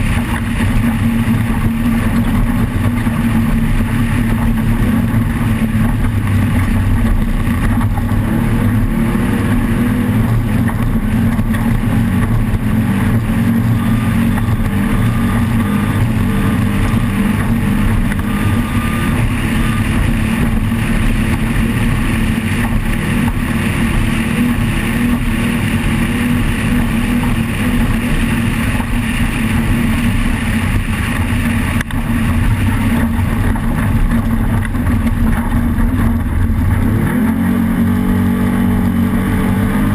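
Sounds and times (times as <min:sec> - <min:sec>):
vehicle engine running loud: 0:00.0 - 0:39.9.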